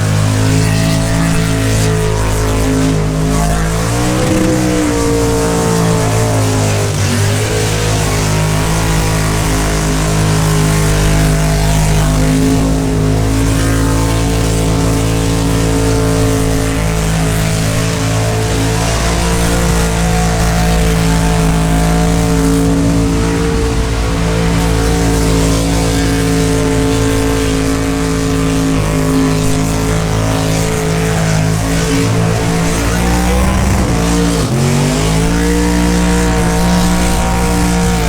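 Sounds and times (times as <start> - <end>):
car engine at high revs: 0.0 - 38.0.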